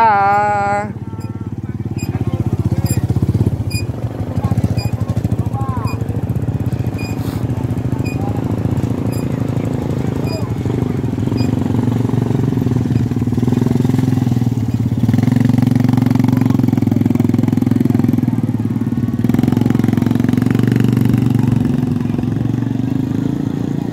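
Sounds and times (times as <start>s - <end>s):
quad bike engine running: 0.0s - 23.9s.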